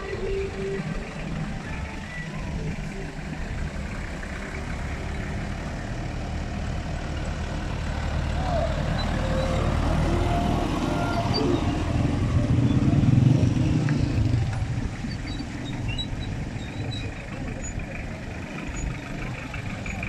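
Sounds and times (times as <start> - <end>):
vehicle engines rumbling past: 0.0 - 20.0.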